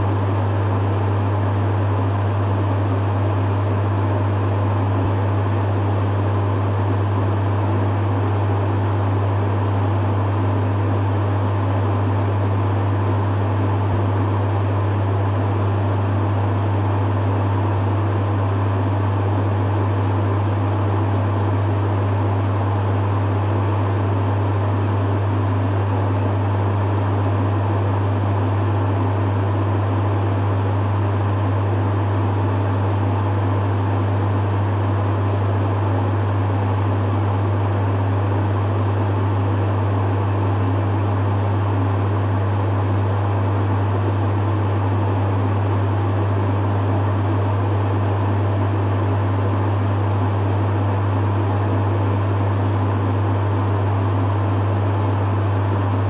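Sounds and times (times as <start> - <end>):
dehumidifier hum: 0.0 - 56.0
fan rushing: 0.0 - 56.0.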